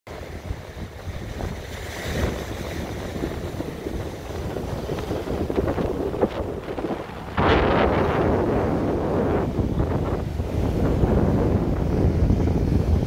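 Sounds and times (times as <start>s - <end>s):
sea waves washing on beach: 0.1s - 13.0s
wind buffeting microphone: 0.1s - 13.0s.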